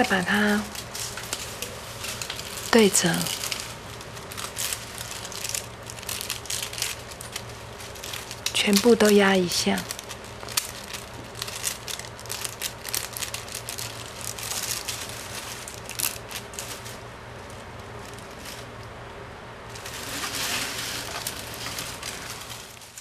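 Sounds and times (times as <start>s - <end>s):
plastic bundle rustling: 0.0s - 18.9s, 19.7s - 23.0s
plastic straps crackling: 0.0s - 18.9s, 19.7s - 23.0s.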